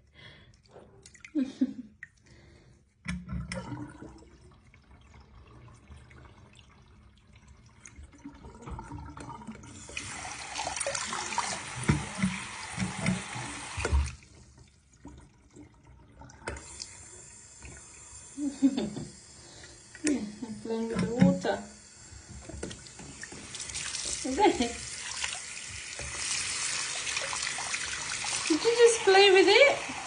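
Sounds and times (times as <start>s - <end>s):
tap water running into sink: 5.3s - 30.0s.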